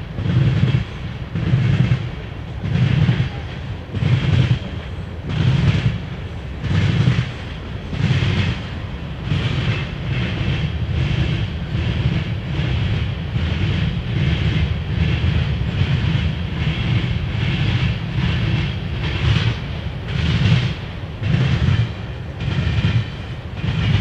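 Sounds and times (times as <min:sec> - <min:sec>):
low train rumble: 0:00.0 - 0:24.0
train wheels clattering: 0:00.0 - 0:24.0.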